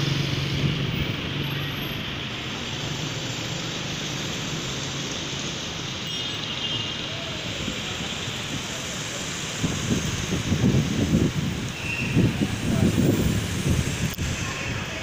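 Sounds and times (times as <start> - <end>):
cars and motorcycles passing: 0.0 - 15.0.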